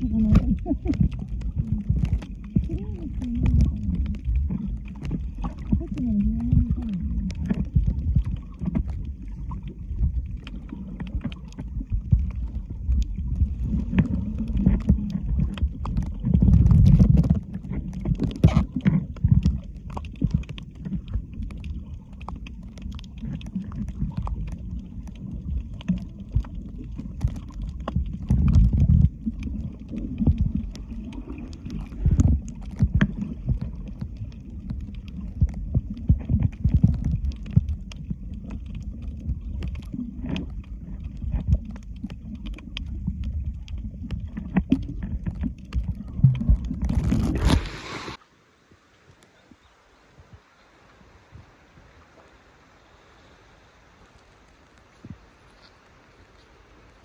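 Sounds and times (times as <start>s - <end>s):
water sloshing and splashing: 0.0s - 49.3s.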